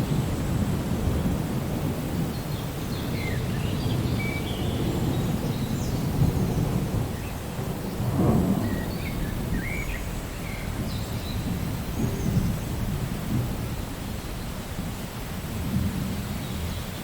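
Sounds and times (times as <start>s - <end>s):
low rolling thunder: 0.0s - 16.9s
steady rain: 0.0s - 17.0s.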